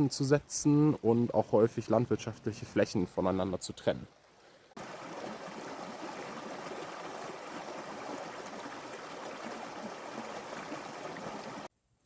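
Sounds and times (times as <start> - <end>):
brook rushing and babbling: 0.0 - 11.7.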